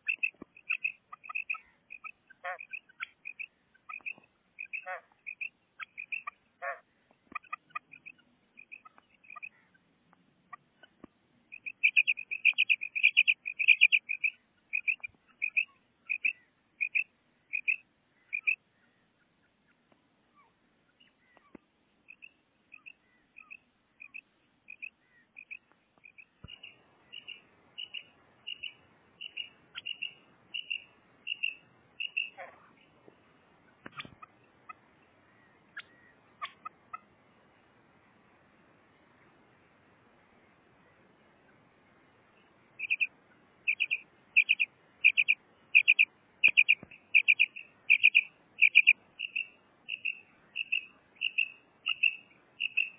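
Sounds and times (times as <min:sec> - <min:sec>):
quail calling: 0:00.0 - 0:09.8, 0:10.5 - 0:19.8, 0:20.4 - 0:32.8, 0:33.7 - 0:37.1, 0:42.8 - 0:43.1, 0:43.7 - 0:52.9.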